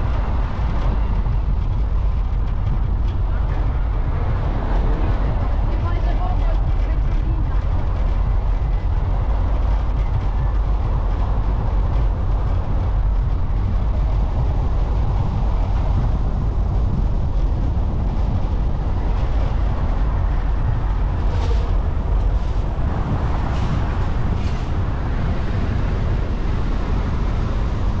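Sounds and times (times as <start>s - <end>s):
car road and wind noise: 0.0s - 28.0s.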